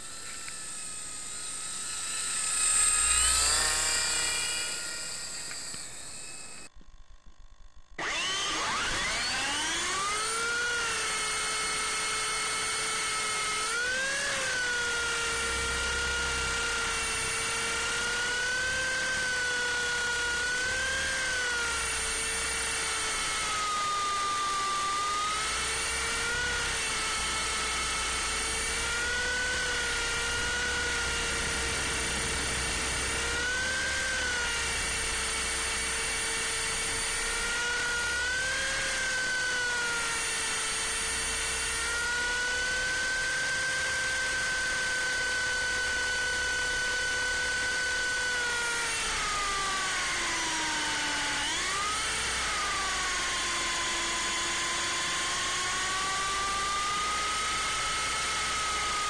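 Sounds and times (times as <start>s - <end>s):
toy helicopter rotor whining: 0.0s - 6.8s, 7.9s - 59.0s.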